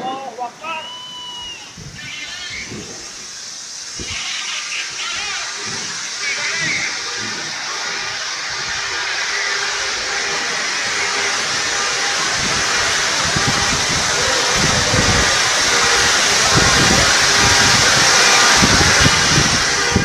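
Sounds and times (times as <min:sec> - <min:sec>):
wind buffeting microphone: 0:00.0 - 0:04.4, 0:05.0 - 0:20.0
heavy rain and hail: 0:00.0 - 0:20.0.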